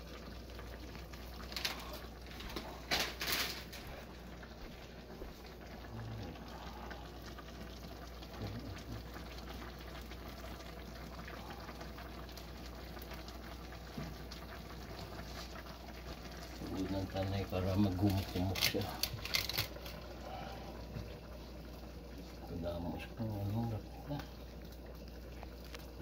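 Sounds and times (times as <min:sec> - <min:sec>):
broth bubbling and hissing: 0:00.0 - 0:26.0.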